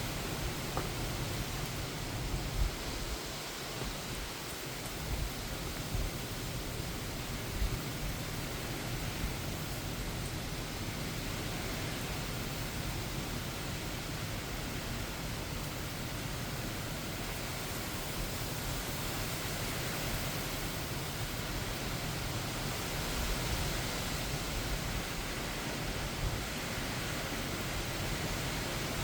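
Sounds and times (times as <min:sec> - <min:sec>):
heavy rain: 0:00.0 - 0:29.0
low rumble of wind: 0:00.0 - 0:29.0.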